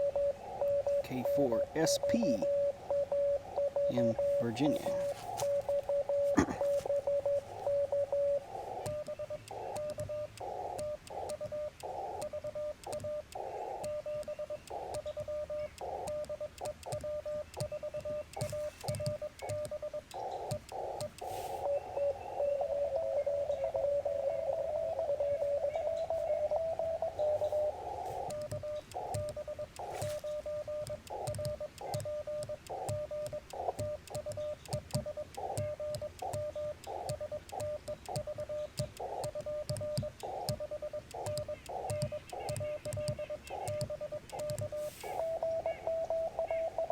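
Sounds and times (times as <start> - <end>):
morse code tone: 0.0 - 20.1, 21.6 - 46.9
band noise hiss: 0.0 - 22.8, 25.4 - 46.4.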